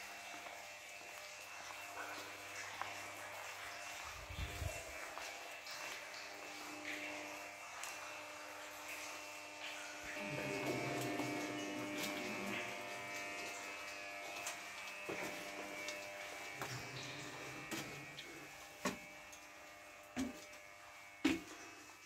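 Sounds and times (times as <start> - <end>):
steady buzzing hum: 0.0 - 21.4.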